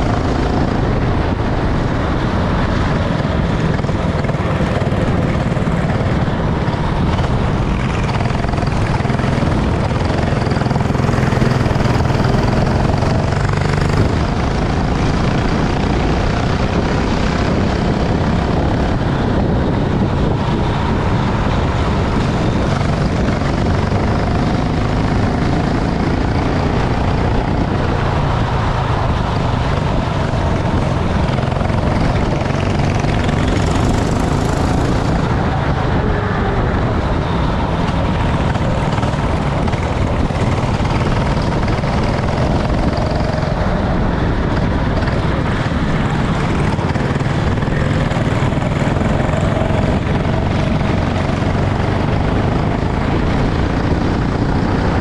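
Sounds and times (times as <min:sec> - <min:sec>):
go-kart engine running: 0:00.0 - 0:55.0
heavy rushing noise: 0:00.0 - 0:55.0.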